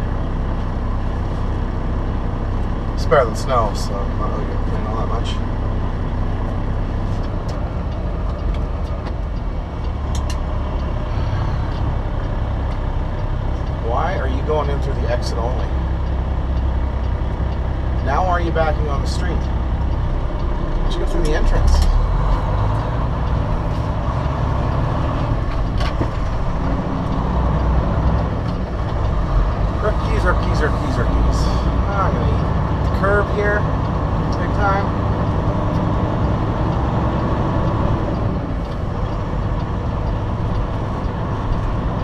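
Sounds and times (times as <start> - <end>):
truck diesel engine rumble: 0.0 - 42.0.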